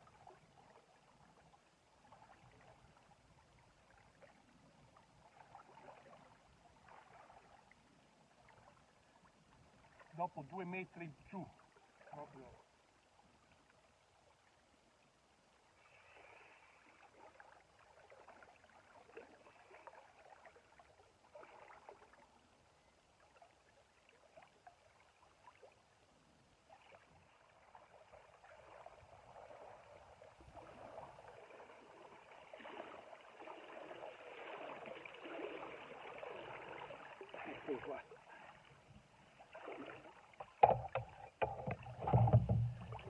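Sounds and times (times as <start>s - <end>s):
water splashing and gurgling: 0.0s - 14.6s, 15.7s - 22.6s, 26.6s - 43.0s.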